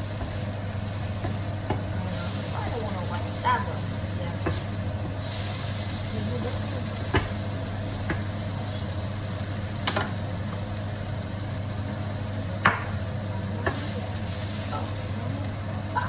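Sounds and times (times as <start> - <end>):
onions frying in a pan: 0.0 - 16.0
steady low hum: 0.0 - 16.0.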